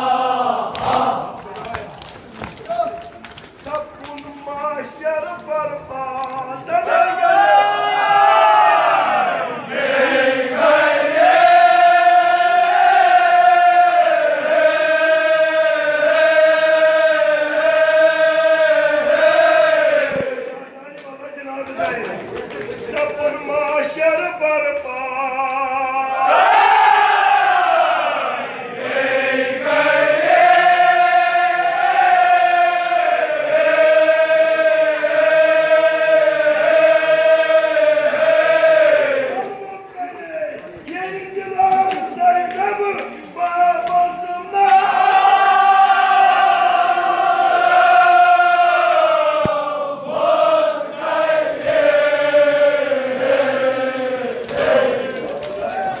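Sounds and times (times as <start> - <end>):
men chanting: 0.0 - 1.8, 4.5 - 20.8, 22.8 - 39.7, 43.6 - 56.0.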